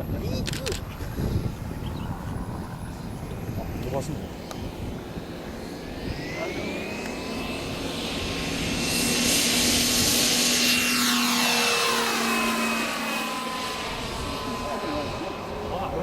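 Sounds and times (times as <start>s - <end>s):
model aircraft engine and propeller: 0.0s - 16.0s.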